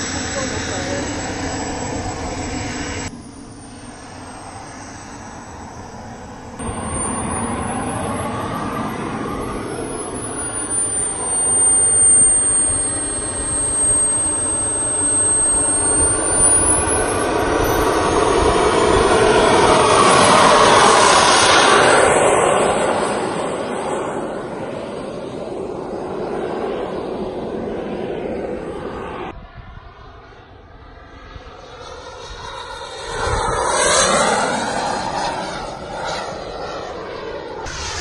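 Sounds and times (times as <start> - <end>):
jet engine roar and whine: 0.0 - 38.0.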